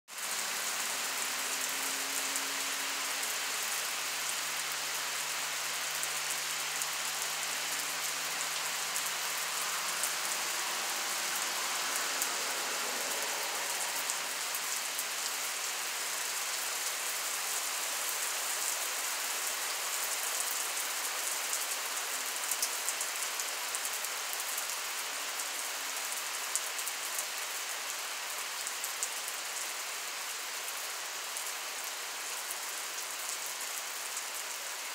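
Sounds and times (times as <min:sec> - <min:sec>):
heavy rain on wet asphalt: 0:00.1 - 0:34.9.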